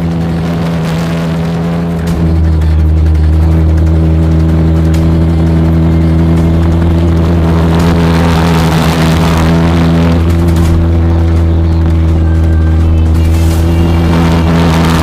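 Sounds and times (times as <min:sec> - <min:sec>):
pulse jet engine droning: 0:00.0 - 0:15.0.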